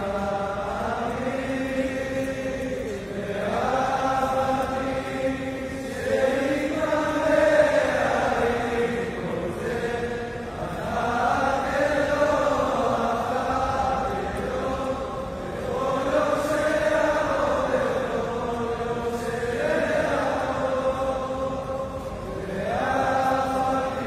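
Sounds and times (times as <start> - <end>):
men singing in unison: 0.0 - 24.0.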